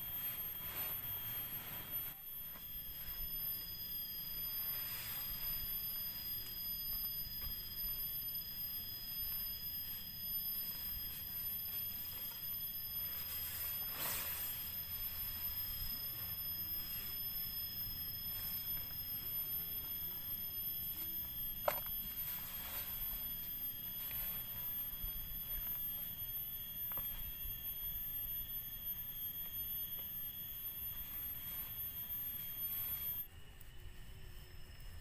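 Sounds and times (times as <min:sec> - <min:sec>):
high-pitched insect calls: 0:00.0 - 0:35.0.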